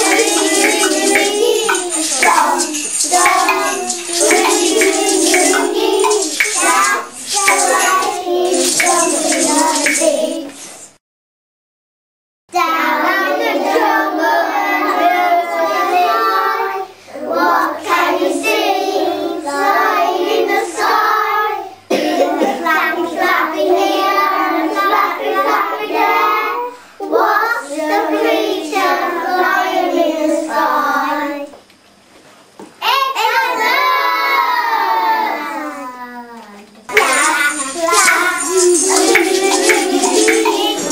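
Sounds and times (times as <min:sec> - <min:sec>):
young children singing: 0:00.0 - 0:10.8, 0:12.5 - 0:31.6, 0:32.8 - 0:36.3, 0:36.9 - 0:40.9.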